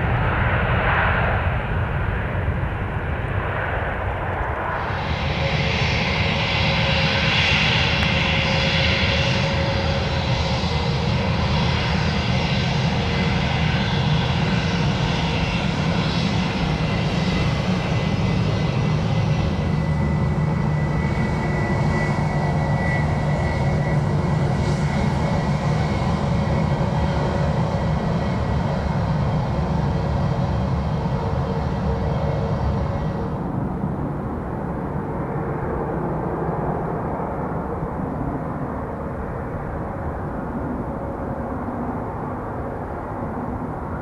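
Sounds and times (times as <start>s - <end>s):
airliner engines running: 0.0s - 44.0s.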